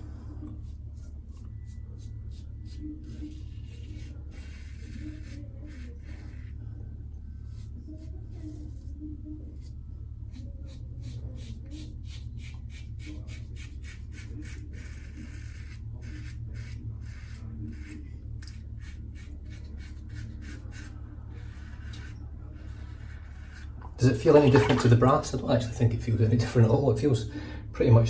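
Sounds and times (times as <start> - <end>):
razor scraping stubble: 0.0 - 25.2
steady low hum: 0.0 - 28.0.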